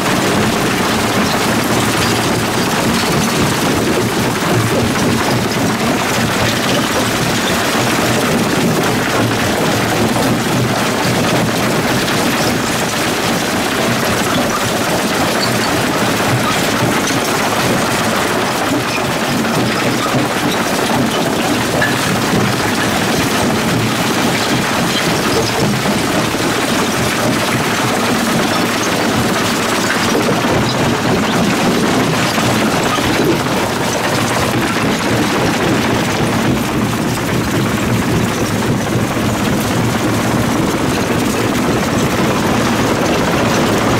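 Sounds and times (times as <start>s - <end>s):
jaw crusher crushing rock: 0.0s - 43.9s.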